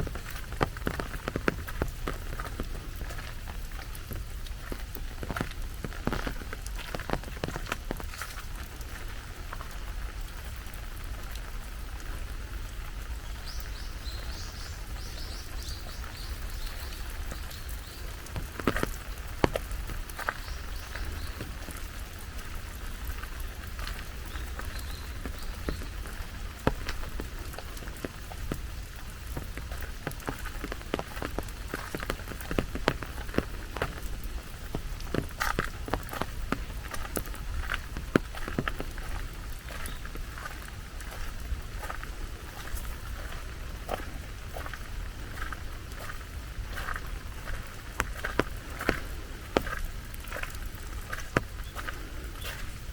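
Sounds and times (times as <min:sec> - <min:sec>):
raindrops tapping close by: 0:00.0 - 0:52.9
steady rain falling: 0:00.0 - 0:52.9.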